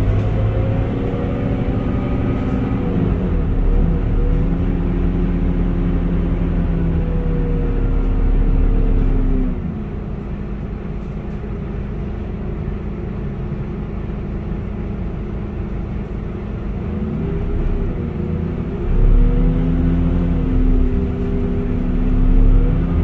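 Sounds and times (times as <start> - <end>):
bus diesel engine rumble: 0.0 - 23.0.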